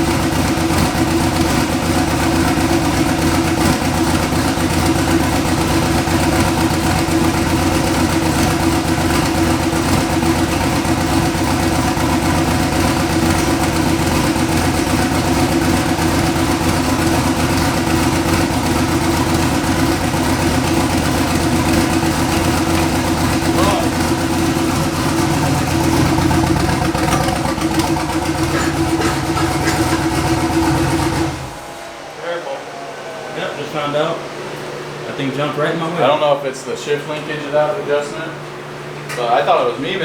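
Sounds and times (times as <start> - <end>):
vehicle engine running steadily: 0.0 - 32.1.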